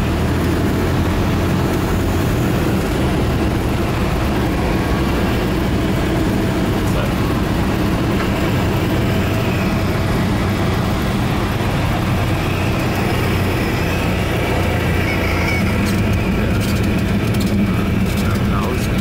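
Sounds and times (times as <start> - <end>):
airplane engine and propeller: 0.0 - 19.0.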